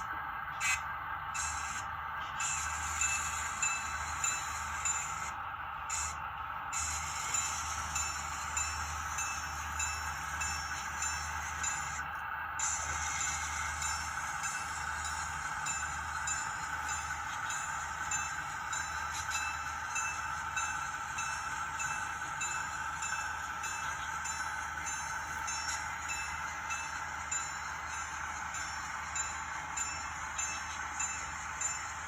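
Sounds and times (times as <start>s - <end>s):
model train whirring: 0.0s - 32.0s.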